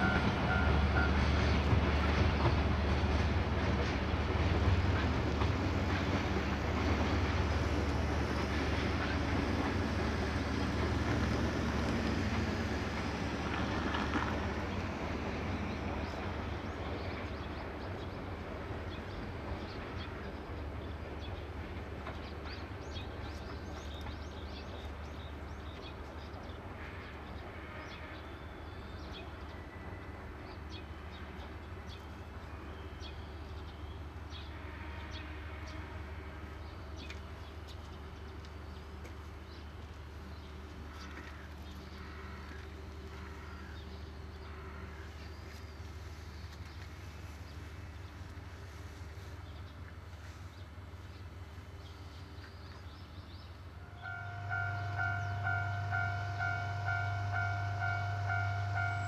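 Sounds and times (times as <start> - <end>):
freight train engine rumble: 0.0 - 59.0.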